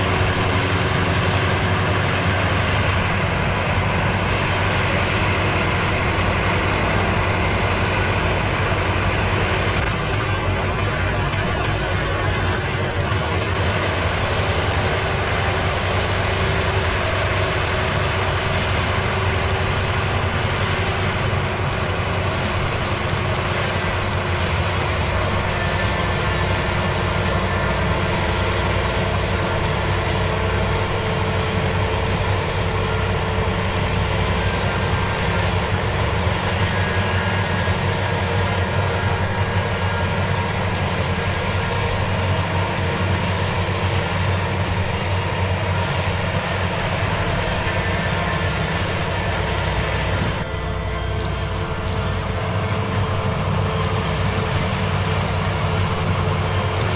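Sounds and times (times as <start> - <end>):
combine harvester running: 0.0 - 56.9.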